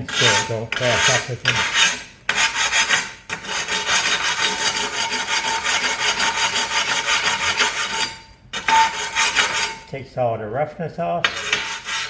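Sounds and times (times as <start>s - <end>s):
sanding stone rasping on tile: 0.0s - 9.8s, 11.2s - 12.0s.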